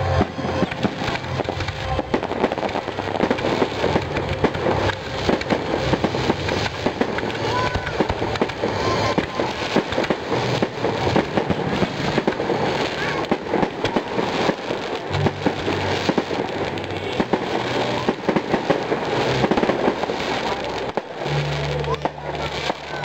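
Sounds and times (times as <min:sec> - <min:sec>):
firework bangs and crackles: 0:00.0 - 0:23.0.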